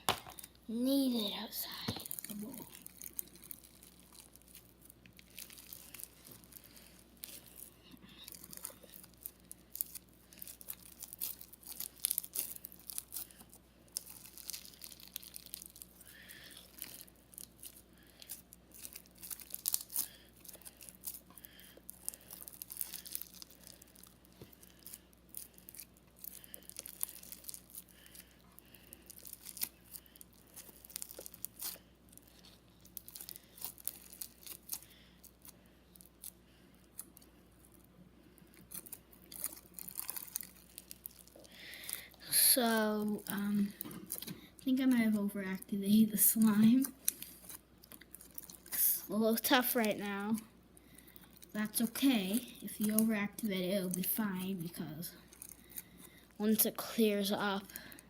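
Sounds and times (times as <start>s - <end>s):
crunchy slime crackling: 0.0s - 58.0s.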